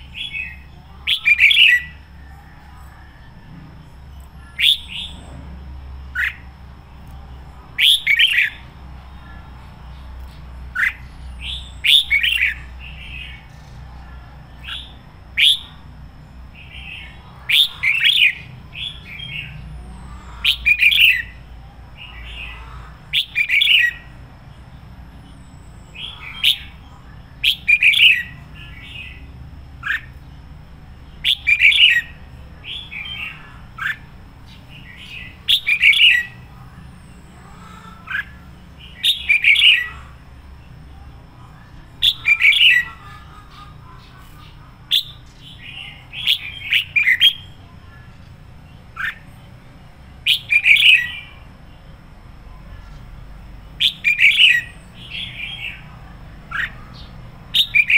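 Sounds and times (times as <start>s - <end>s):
bird singing warbled phrases: 0.0s - 57.9s
low steady hum: 0.0s - 57.9s.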